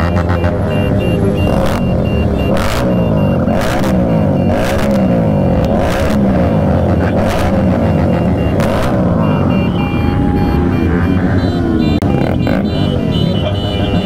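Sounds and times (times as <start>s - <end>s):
short high beep: 0.0s - 6.1s, 7.0s - 14.0s
motorcycle engines revving: 0.0s - 14.0s.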